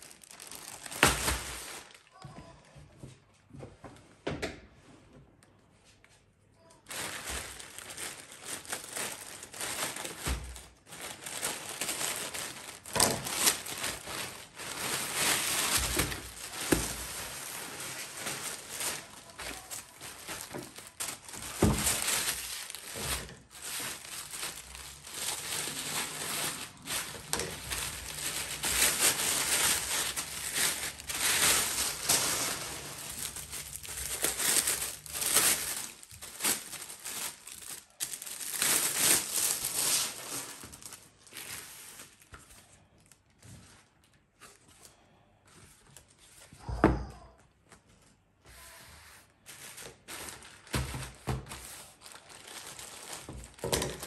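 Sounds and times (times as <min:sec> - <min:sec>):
plastic packaging rustling: 0:00.0 - 0:02.4, 0:06.7 - 0:48.0, 0:48.6 - 0:54.0.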